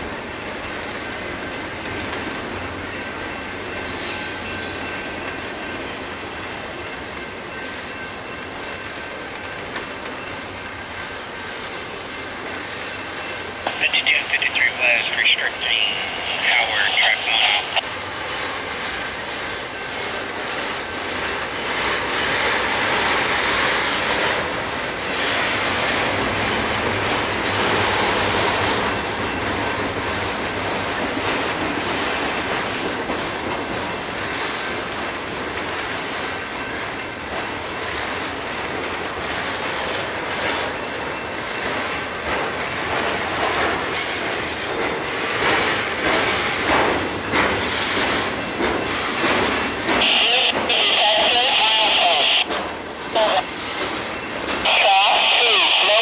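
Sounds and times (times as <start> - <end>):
freight train rolling past: 0.0 - 14.3, 14.9 - 54.6.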